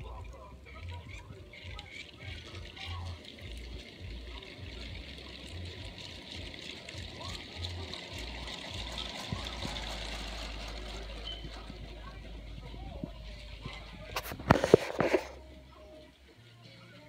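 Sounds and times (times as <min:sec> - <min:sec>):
toy train wheels rolling on rails: 0:00.0 - 0:17.0.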